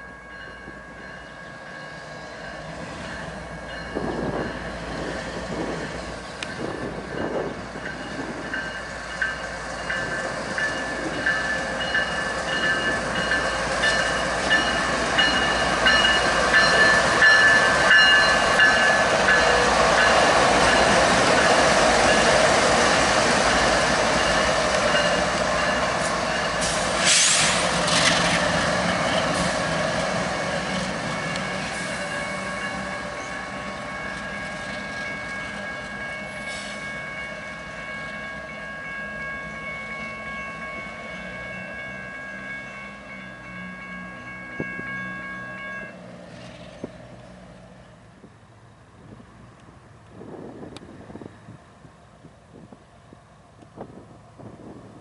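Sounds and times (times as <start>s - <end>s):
diesel locomotive engines: 0.0s - 55.0s
train wheels rolling on rail: 0.0s - 55.0s.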